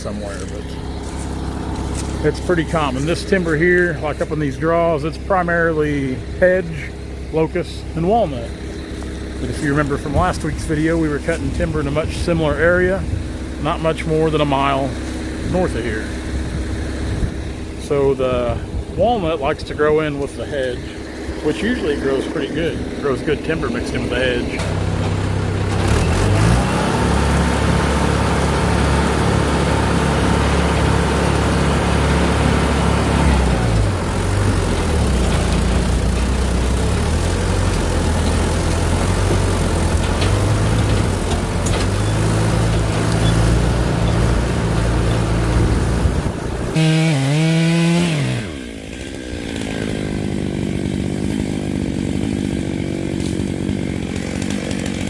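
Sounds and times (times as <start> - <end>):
chainsaw cutting timber: 0.0 - 4.6, 8.3 - 17.9, 20.0 - 55.0.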